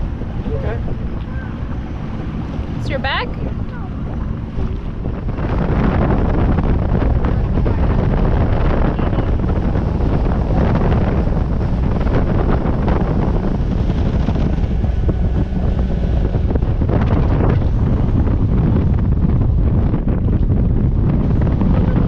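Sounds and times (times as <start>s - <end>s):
water and hull noise: 0.0s - 22.0s
wind buffeting microphone: 0.0s - 22.0s.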